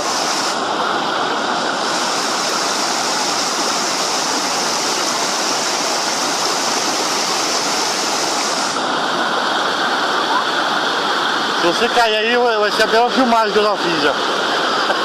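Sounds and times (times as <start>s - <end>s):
waterfall and stream rushing: 0.0s - 15.0s.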